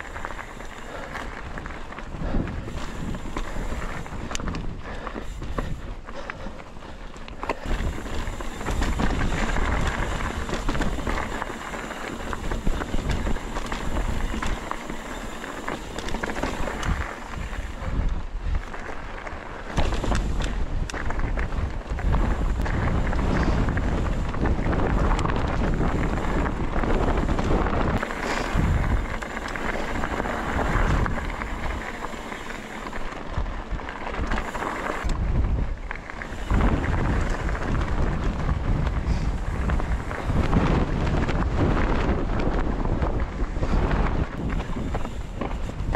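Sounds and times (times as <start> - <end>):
tyres crunching over stones: 0.0 - 42.4
bike rattling: 0.0 - 45.9
wind on microphone: 0.0 - 45.9.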